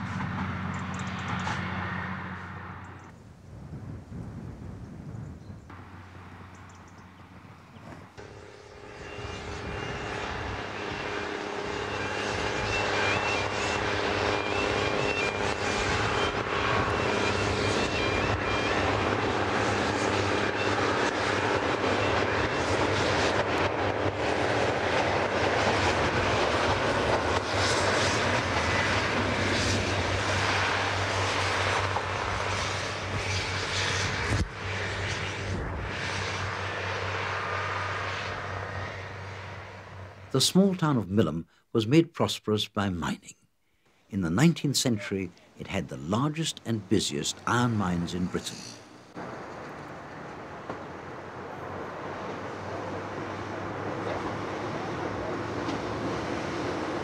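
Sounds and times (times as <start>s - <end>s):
diesel train engine drone: 0.0s - 57.0s.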